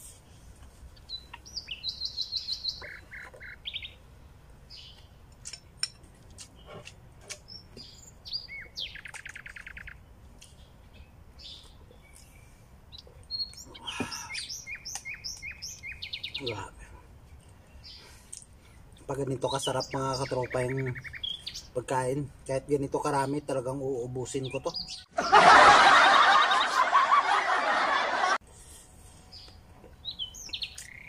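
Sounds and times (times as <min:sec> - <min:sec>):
small birds chirping and trilling: 0:00.6 - 0:25.1, 0:29.1 - 0:31.0.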